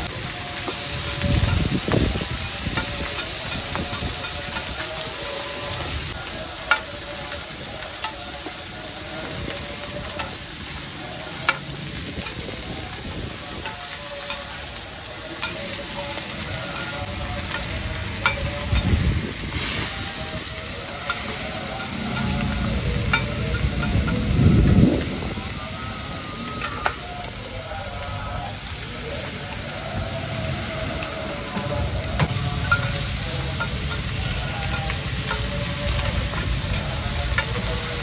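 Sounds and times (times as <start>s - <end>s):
food sizzling on a griddle: 0.0s - 38.0s.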